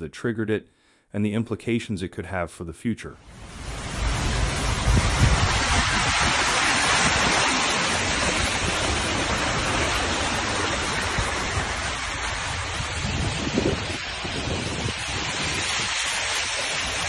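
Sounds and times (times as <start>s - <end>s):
storm wind and water rushing: 3.2s - 17.0s
wind buffeting microphone: 3.3s - 17.0s.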